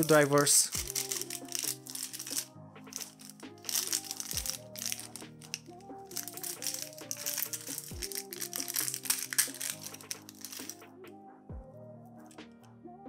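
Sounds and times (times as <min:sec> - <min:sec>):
plastic bag of screws rattling: 0:00.0 - 0:10.8
background music: 0:00.0 - 0:13.0.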